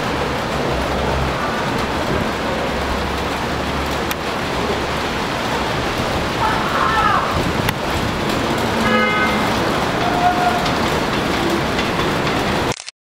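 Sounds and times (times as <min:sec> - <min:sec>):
subway train rumble and hiss: 0:00.0 - 0:12.7.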